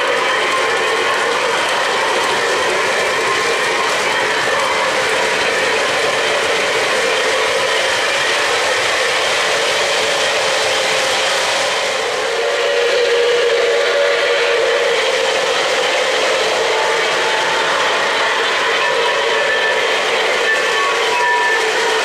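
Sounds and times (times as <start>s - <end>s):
model trains rumbling and clattering: 0.0s - 22.0s
whistle-like tone: 0.0s - 22.0s.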